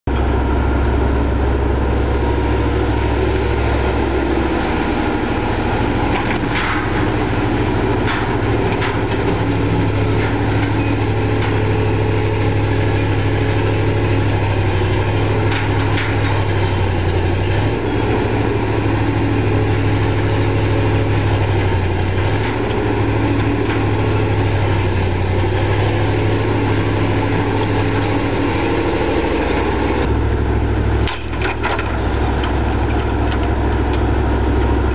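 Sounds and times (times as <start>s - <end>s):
excavator engine droning: 0.1s - 34.9s.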